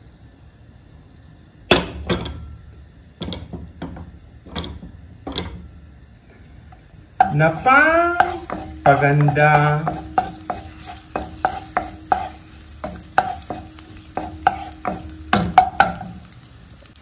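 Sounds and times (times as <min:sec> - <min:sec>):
hot oil popping: 0:01.7 - 0:05.9, 0:06.6 - 0:17.0.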